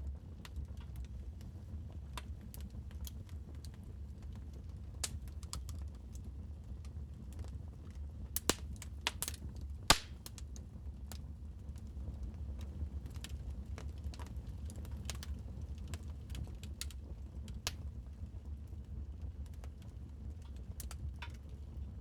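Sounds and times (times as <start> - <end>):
wood fire crackling and popping: 0.1 - 22.0.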